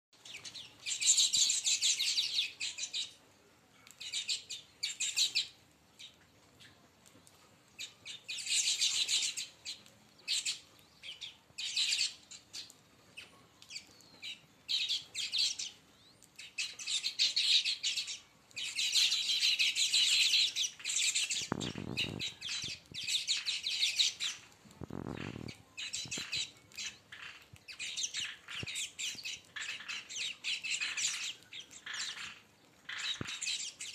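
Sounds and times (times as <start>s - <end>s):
birds chattering in high chirps: 0.2s - 3.2s, 3.8s - 6.9s, 7.8s - 33.9s.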